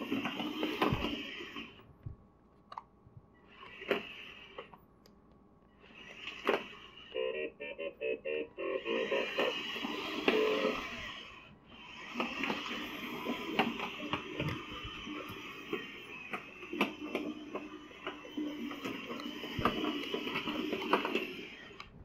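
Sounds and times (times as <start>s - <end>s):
toy robot motors whirring: 0.0s - 1.8s, 3.4s - 4.8s, 5.7s - 7.1s, 8.7s - 22.0s.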